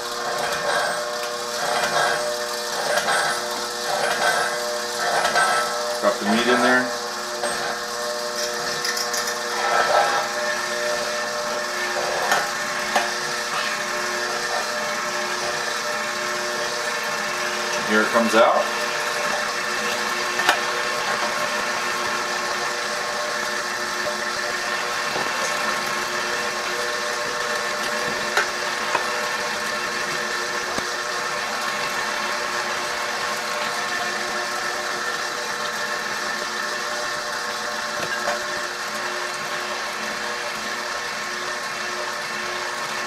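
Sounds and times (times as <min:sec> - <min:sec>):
stand mixer motor whine: 0:00.0 - 0:43.0.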